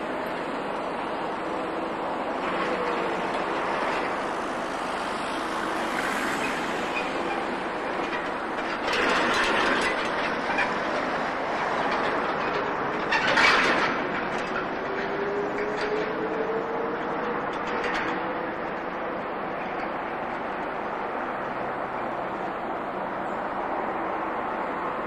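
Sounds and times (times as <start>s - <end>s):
train rolling on track: 0.0s - 25.0s.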